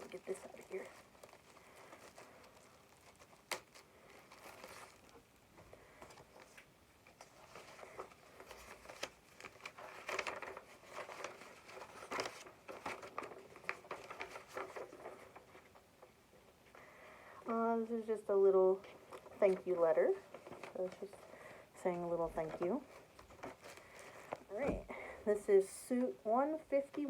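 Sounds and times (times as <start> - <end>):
packaging crinkling and rustling: 0.0 - 16.1, 17.7 - 24.9.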